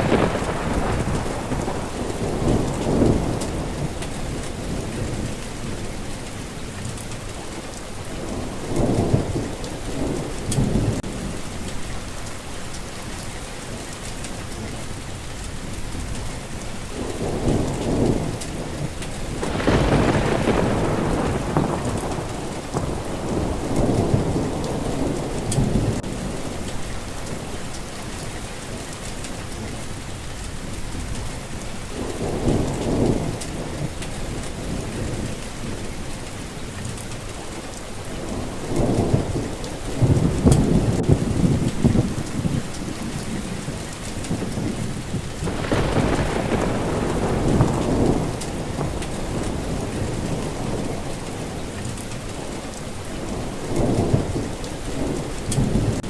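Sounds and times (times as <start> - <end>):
rolling thunder: 0.0 - 12.2, 15.6 - 37.2, 38.0 - 56.0
steady rain: 0.0 - 56.0.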